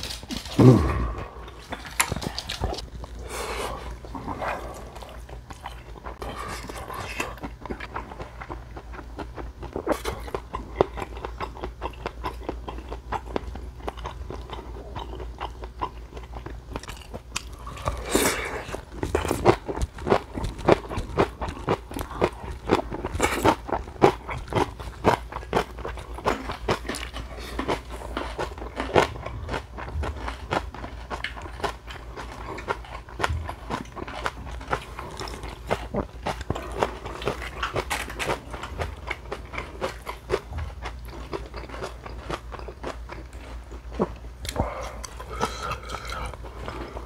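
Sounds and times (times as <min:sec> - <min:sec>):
person chewing food: 0:00.0 - 0:47.0.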